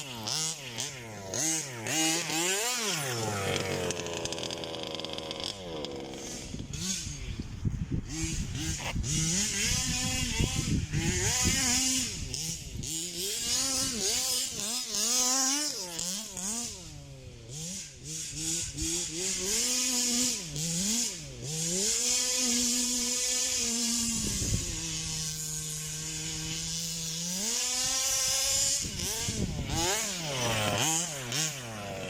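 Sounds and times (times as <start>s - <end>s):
rc car engine revving: 0.0s - 32.0s.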